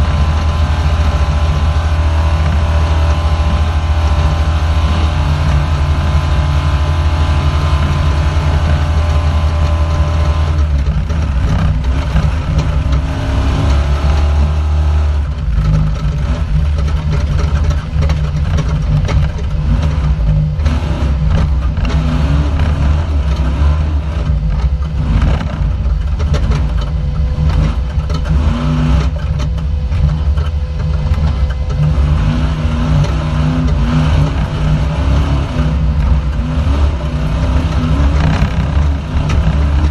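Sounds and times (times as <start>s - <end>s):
knocks and rattles: 0.0s - 39.9s
loud engine running: 0.0s - 39.9s.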